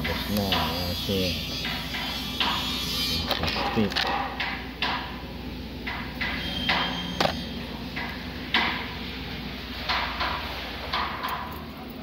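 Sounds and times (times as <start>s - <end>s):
low machinery hum: 0.0s - 12.0s
metalwork and tool noise: 0.0s - 12.0s.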